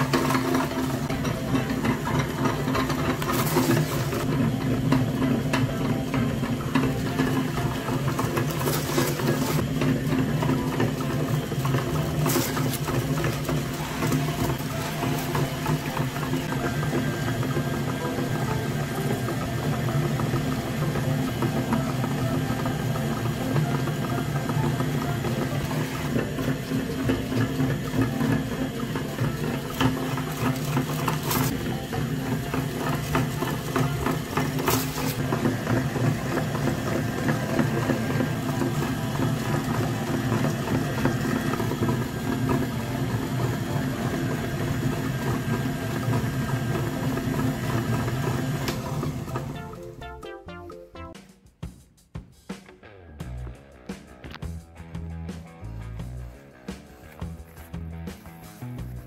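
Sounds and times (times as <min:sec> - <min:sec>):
electric meat grinder humming: 0:00.0 - 0:49.8.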